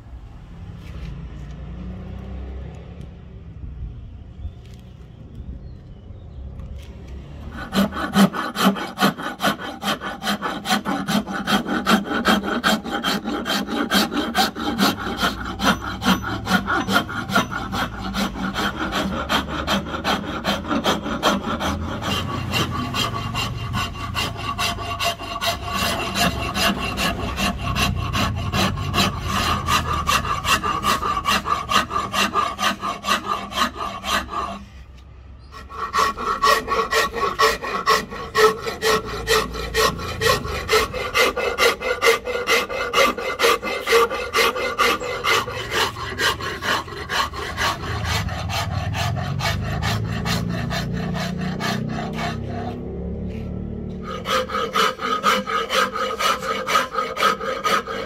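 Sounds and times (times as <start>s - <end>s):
file rasping on wood: 7.4s - 58.0s.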